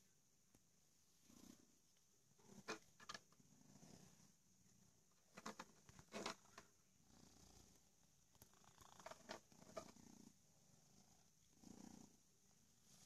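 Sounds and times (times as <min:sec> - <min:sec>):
cat purring: 0:01.1 - 0:13.0.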